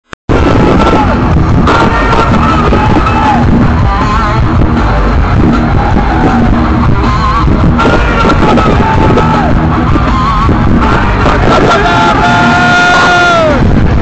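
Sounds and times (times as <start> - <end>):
bass and drums pounding: 0.3 - 14.0
distorted electric guitar: 0.3 - 14.0.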